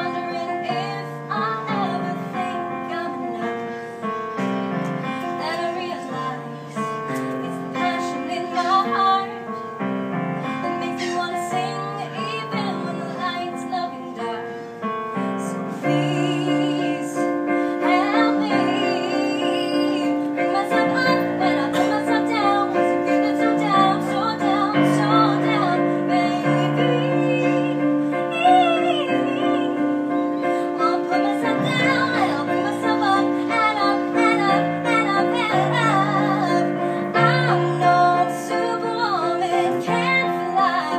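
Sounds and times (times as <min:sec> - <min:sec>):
woman singing: 0:00.0 - 0:04.1, 0:04.7 - 0:09.8, 0:10.4 - 0:40.9
digital piano chords: 0:00.0 - 0:40.9.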